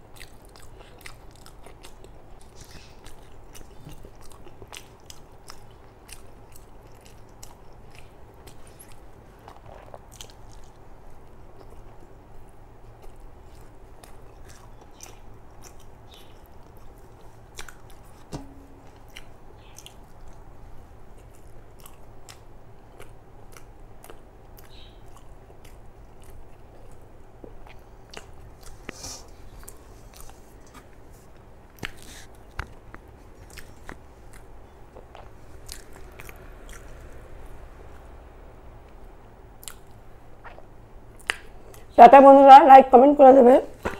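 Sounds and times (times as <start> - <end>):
close chewing with wet mouth clicks: 0.0 - 18.3, 18.9 - 28.9, 31.8 - 37.4, 39.6 - 41.9.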